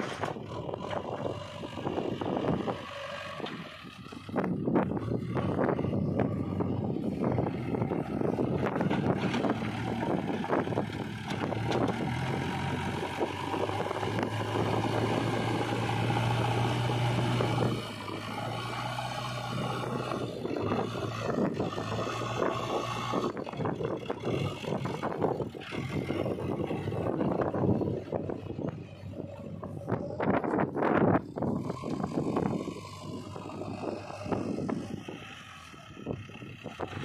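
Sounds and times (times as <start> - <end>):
diesel engine under load: 0.0 - 37.0.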